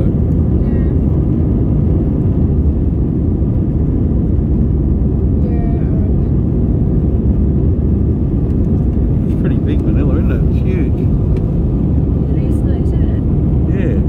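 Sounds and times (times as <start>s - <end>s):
airliner engine rumble in cabin: 0.0s - 14.0s.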